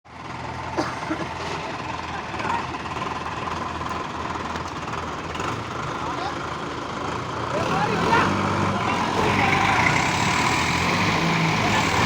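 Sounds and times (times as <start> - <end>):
tractor diesel engines clattering: 0.1 - 12.0.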